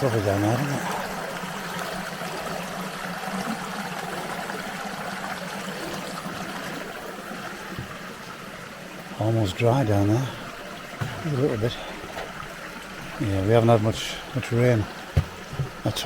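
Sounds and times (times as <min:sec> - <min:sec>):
stream flowing water: 0:00.0 - 0:16.0.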